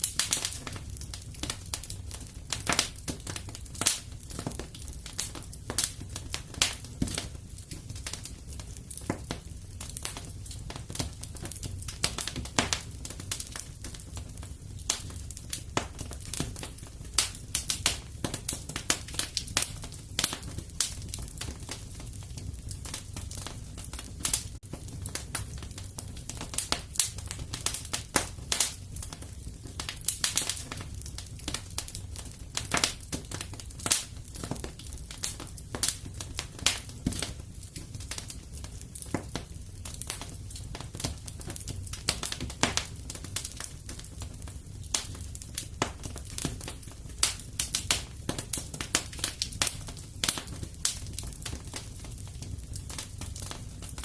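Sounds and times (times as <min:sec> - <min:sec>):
sharp fire pops: 0:00.0 - 0:54.0
wood fire crackling: 0:00.0 - 0:54.0.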